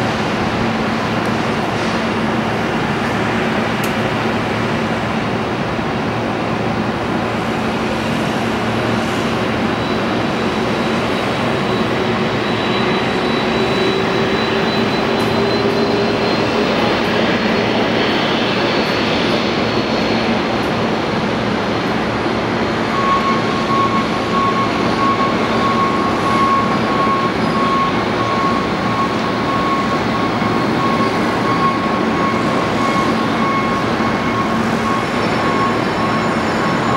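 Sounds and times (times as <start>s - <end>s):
jet engines rushing and whining: 0.0s - 36.9s
middle-pitched whine: 0.0s - 36.9s.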